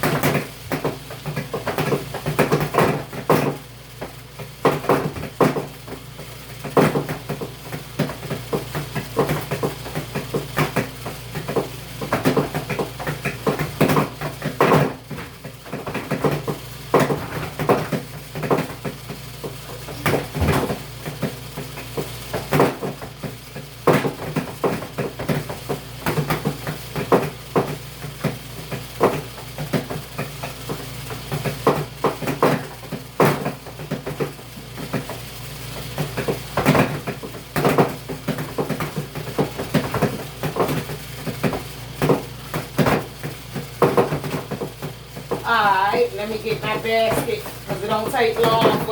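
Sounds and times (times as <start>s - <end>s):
washing machine knocks and rattles: 0.0s - 35.2s, 35.8s - 45.6s, 46.4s - 48.9s
washing machine humming: 0.0s - 48.9s.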